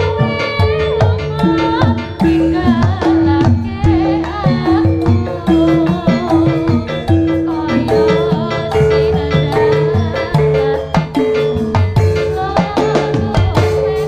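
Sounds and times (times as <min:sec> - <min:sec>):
hand drums: 0:00.0 - 0:14.0
struck metal instruments: 0:00.0 - 0:14.0
wavering singing voice: 0:00.0 - 0:14.0.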